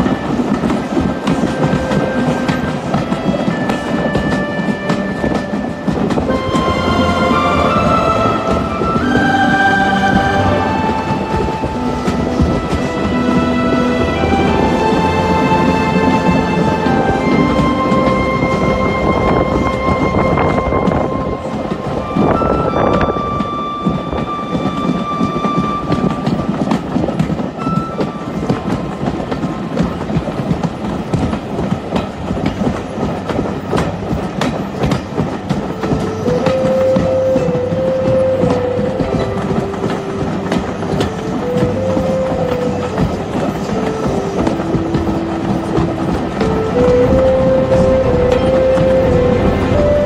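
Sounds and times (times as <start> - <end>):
steam whistle: 0.0 - 26.8, 35.8 - 50.0
slow tune of held notes: 0.0 - 30.1, 31.9 - 50.0
train rumbling on track: 0.0 - 50.0
wheels clicking over rail joints: 0.0 - 50.0.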